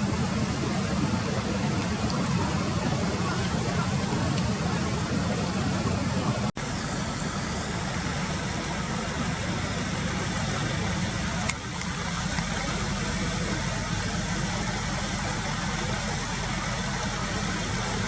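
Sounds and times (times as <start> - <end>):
low motor rumble with hiss: 0.0 - 18.0.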